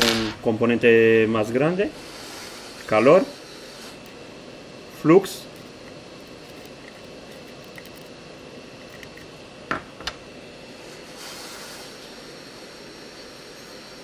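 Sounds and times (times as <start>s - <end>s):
faint high whine: 0.0s - 14.0s
hot air station hissing: 0.0s - 14.0s.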